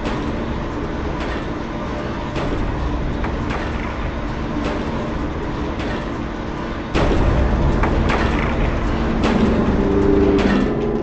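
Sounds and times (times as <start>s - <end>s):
low rumbling drone: 1.9s - 11.0s.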